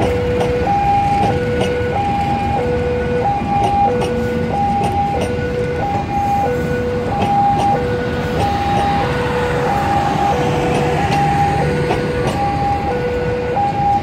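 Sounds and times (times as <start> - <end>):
train rumbling past: 0.0 - 14.0
two-tone crossing alarm: 0.0 - 14.0
wheels clicking over rail joints: 0.0 - 14.0.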